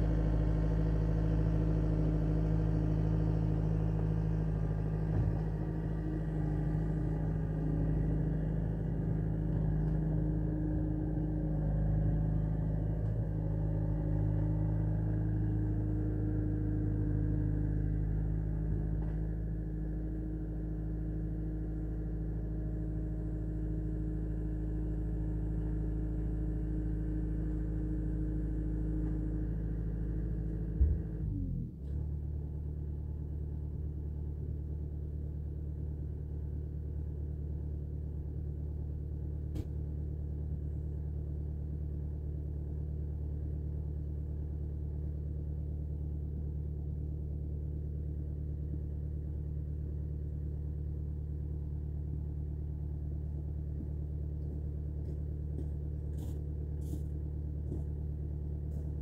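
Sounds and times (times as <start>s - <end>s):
engine idling drone: 0.0s - 59.0s.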